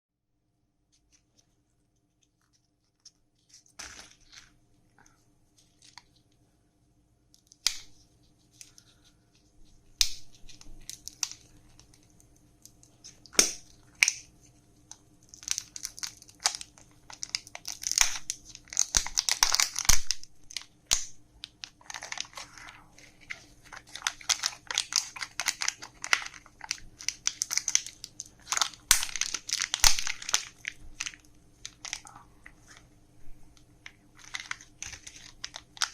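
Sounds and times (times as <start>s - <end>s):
candy wrappers crinkling: 0.9s - 6.4s, 7.4s - 35.9s.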